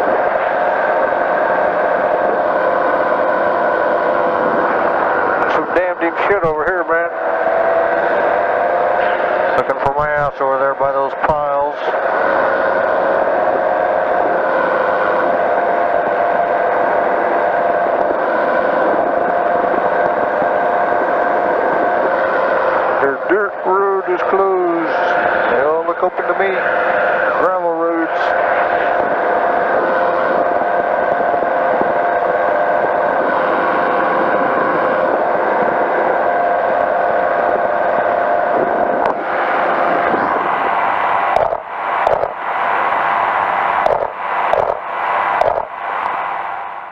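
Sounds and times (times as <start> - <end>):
engine and propeller drone: 0.0 - 46.9.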